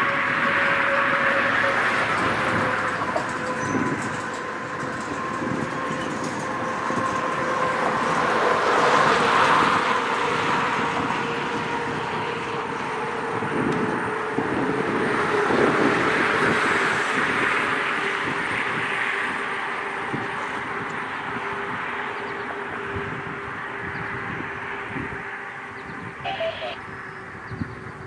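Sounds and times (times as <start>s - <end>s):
train wheels rumbling on rails: 0.0s - 25.8s.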